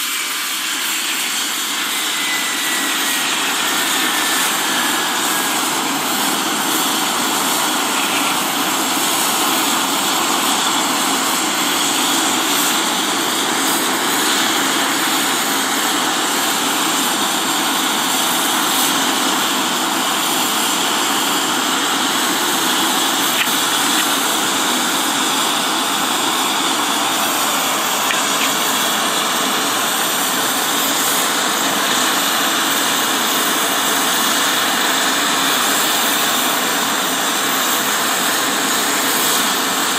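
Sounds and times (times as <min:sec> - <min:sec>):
jet engines idling with whine: 0:00.0 - 0:39.9.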